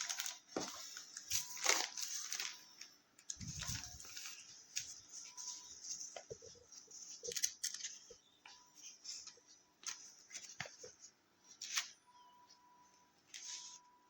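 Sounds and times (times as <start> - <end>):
handling rustles: 0.0 - 14.0.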